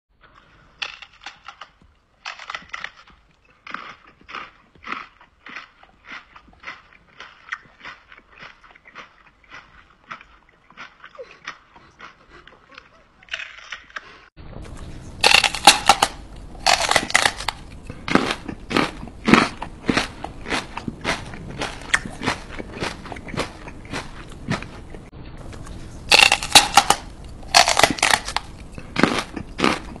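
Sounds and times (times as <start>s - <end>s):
man making chewing noises: 0.3s - 15.4s, 16.8s - 26.3s.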